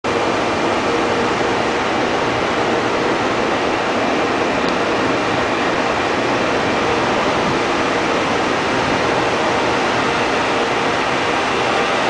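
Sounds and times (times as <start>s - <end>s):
electric locomotive rushing noise: 0.1s - 12.0s.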